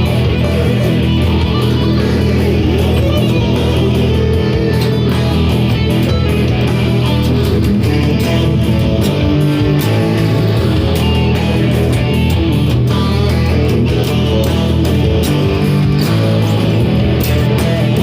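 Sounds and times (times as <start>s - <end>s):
electric guitar picking: 0.0s - 18.0s.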